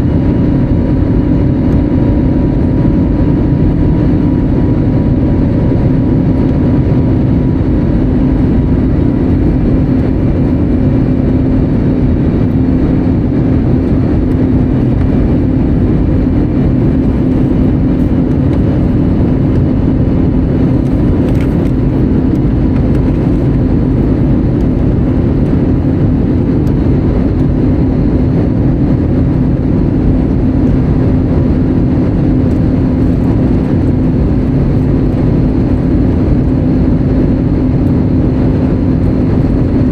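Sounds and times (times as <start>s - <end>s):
aircraft cabin engine noise: 0.0s - 39.9s.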